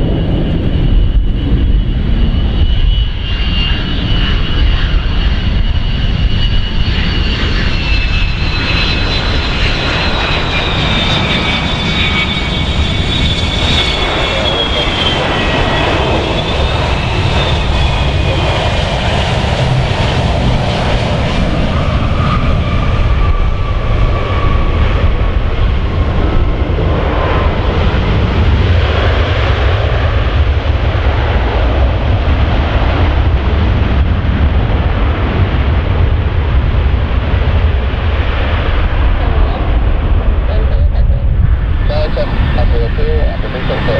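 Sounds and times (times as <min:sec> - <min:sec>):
jet engine rumble: 0:00.0 - 0:43.9
jet engine whine: 0:00.0 - 0:43.9.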